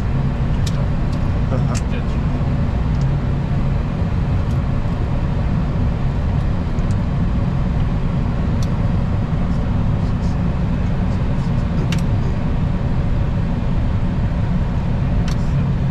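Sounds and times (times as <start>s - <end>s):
aircraft cockpit rumble: 0.0s - 15.9s.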